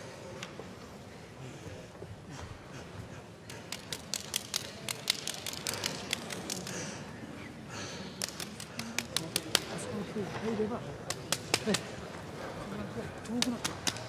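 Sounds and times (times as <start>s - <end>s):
faint hall noise: 0.0s - 14.0s.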